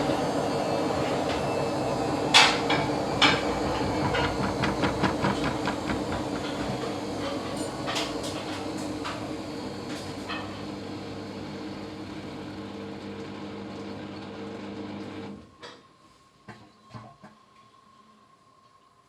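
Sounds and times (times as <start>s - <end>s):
washing machine running loudly: 0.0s - 15.4s.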